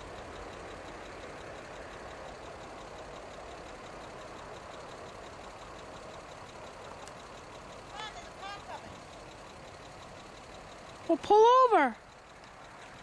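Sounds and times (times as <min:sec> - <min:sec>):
distant diesel locomotive rumble: 0:00.0 - 0:13.0.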